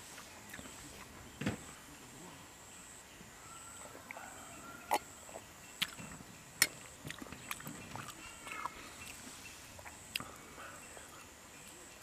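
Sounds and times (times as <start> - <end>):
faint bird chirps: 0.4 - 12.0.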